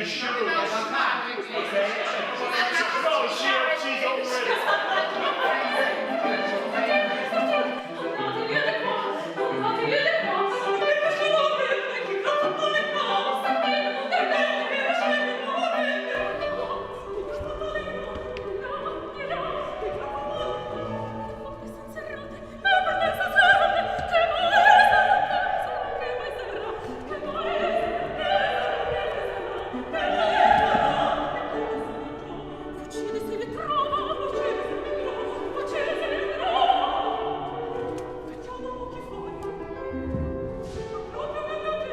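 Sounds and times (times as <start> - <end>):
opera singing: 0.0 - 41.9
classical accompaniment: 1.4 - 41.9.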